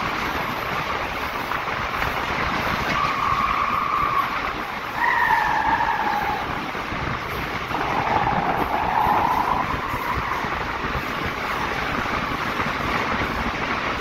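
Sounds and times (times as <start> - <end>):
train wheels roaring in tunnel: 0.0 - 14.0.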